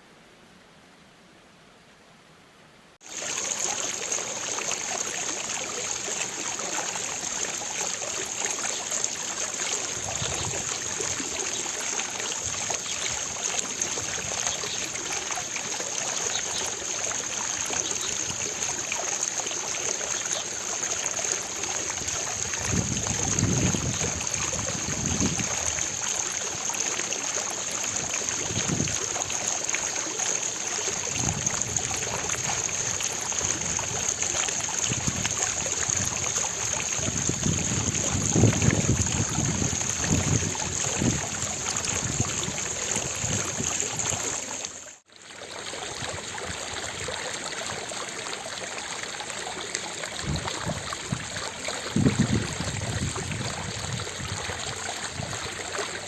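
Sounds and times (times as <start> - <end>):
water rushing and splashing: 3.0 - 56.0.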